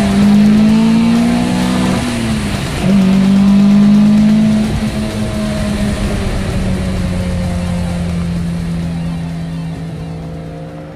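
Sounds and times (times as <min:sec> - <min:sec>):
car engine pulling hard: 0:00.0 - 0:10.9.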